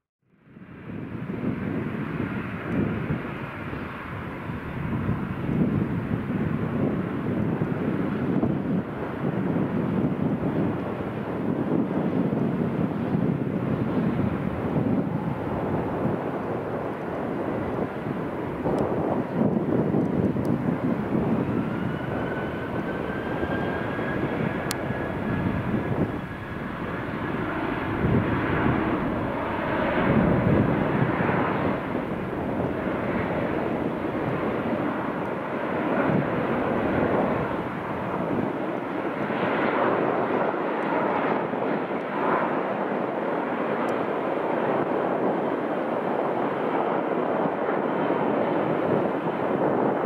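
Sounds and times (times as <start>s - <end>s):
jet engine rumble: 0.3s - 50.0s
jet engine whine: 0.3s - 50.0s.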